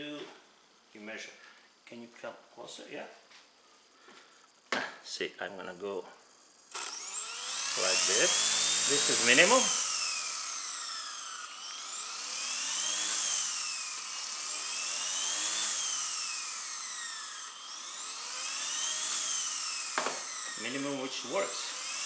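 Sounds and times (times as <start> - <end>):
electric motor whine: 3.8 - 22.0
rotor blade whir: 3.8 - 22.0.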